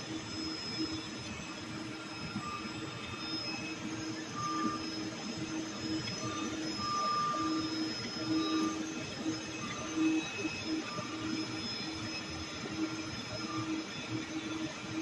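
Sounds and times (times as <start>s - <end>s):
motor hum and whine: 0.0s - 15.0s.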